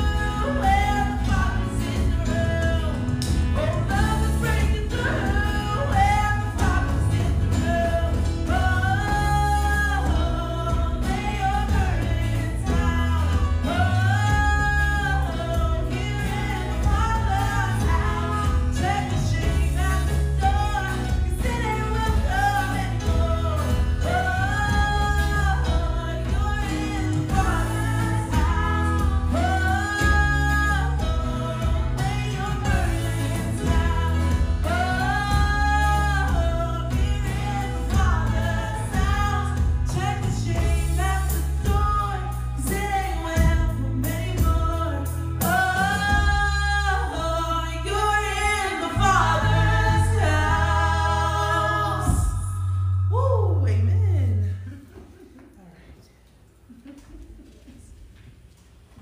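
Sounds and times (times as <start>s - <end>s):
worship song singing: 0.0s - 55.6s.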